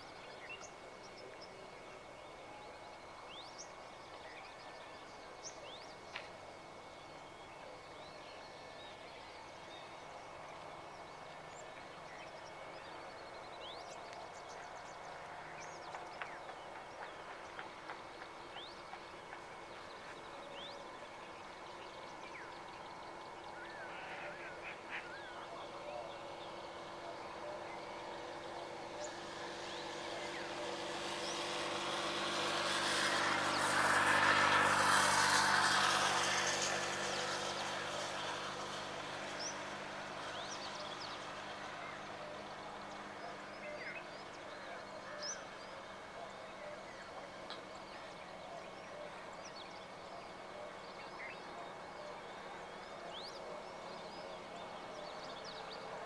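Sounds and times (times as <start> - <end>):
broad noise: 0.0 - 56.0.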